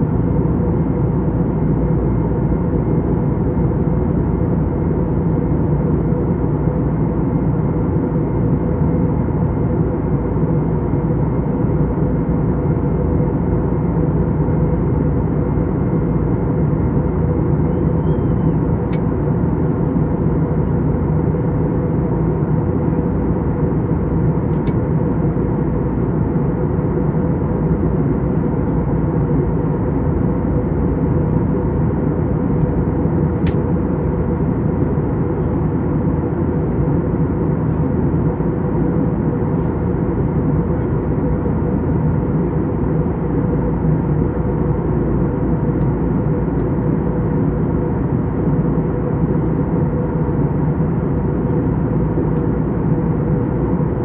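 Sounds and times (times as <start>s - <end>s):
jet engine drone: 0.0s - 54.0s
steady hum: 0.0s - 54.0s.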